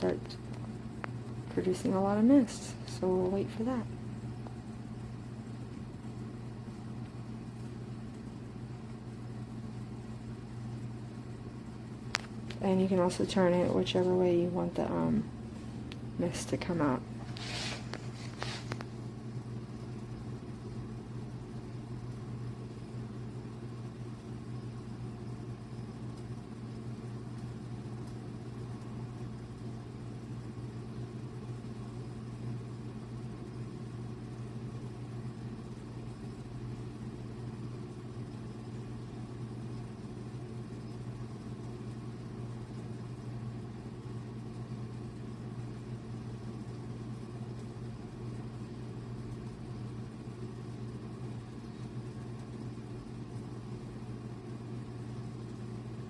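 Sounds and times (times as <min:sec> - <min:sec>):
humidifier humming: 0:00.0 - 0:56.0.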